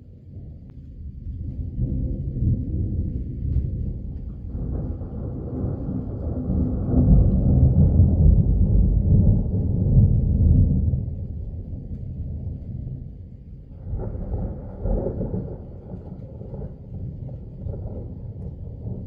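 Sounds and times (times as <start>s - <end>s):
rolling thunder: 0.0s - 19.0s.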